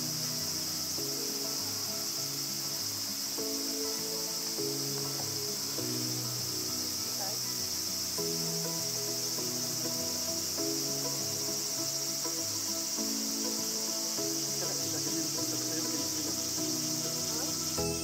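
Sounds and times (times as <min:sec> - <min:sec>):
insects chirring: 0:00.0 - 0:18.0
soft melodic music: 0:00.0 - 0:18.0.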